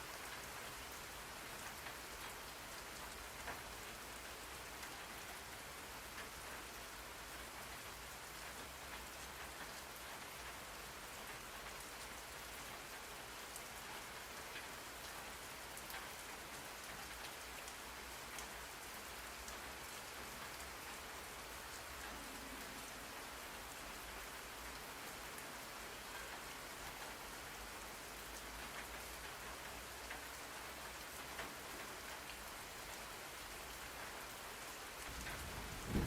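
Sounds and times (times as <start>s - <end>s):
rain drops ticking: 0.0s - 36.0s
steady rain hiss: 0.0s - 36.0s.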